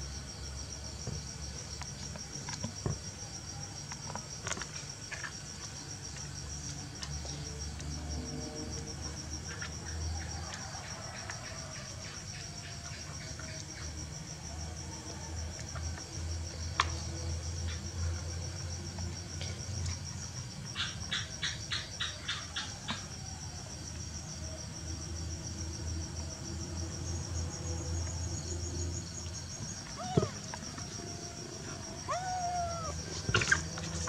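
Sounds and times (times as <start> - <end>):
cricket trilling: 0.0 - 34.0.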